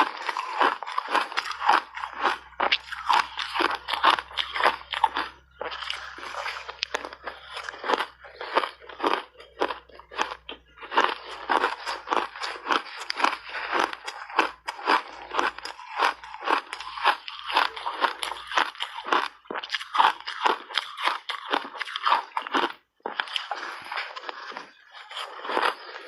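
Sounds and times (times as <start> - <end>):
ice crunching being chewed: 0.0 - 26.0.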